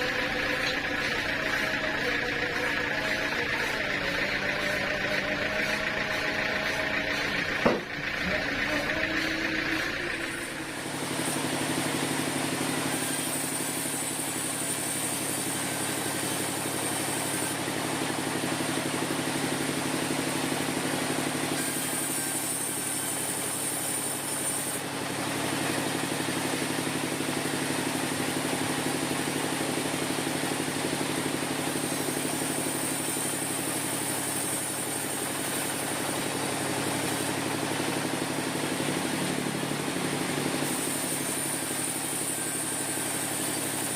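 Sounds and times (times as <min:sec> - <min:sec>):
sawmill machinery hum: 0:00.0 - 0:43.9.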